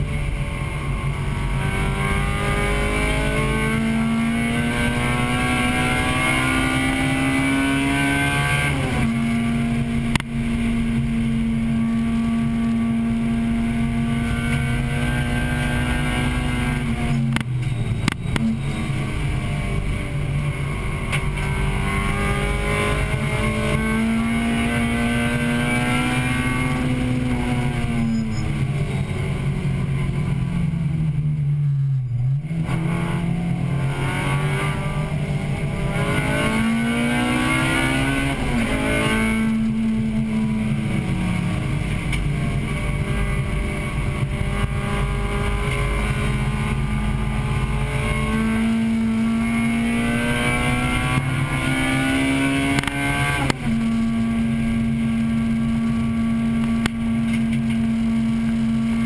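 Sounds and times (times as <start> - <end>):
car engine revving hard: 0.0 - 17.5, 18.4 - 30.3, 32.4 - 59.0.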